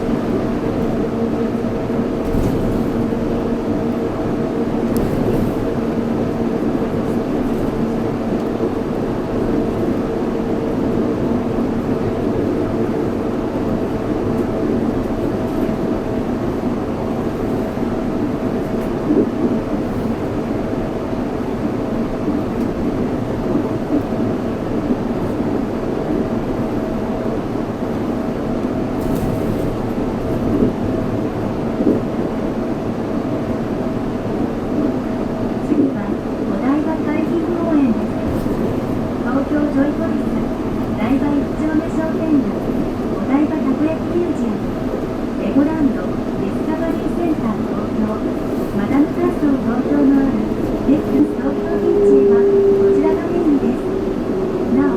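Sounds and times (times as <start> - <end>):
train rumbling from inside: 0.0 - 54.9.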